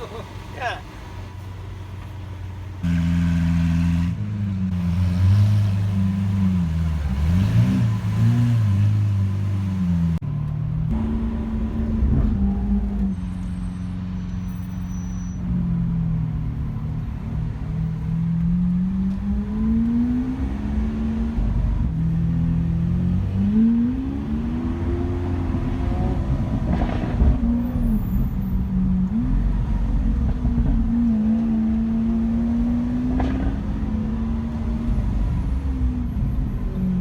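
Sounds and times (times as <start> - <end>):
car engine revving: 2.8 - 13.6, 15.4 - 37.0.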